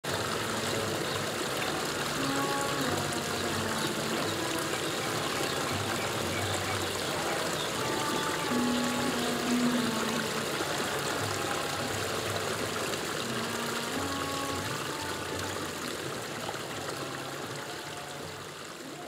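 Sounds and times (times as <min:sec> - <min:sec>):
small waterfall splashing into pond: 0:00.0 - 0:19.0
faint slow sustained music: 0:00.1 - 0:19.0.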